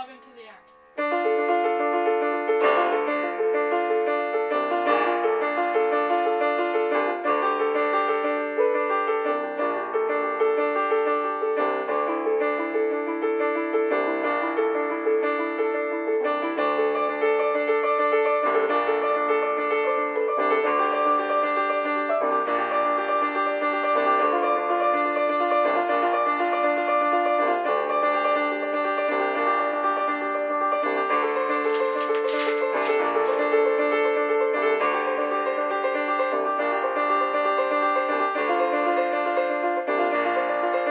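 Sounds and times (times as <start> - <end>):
piano piece: 0.0 - 40.9.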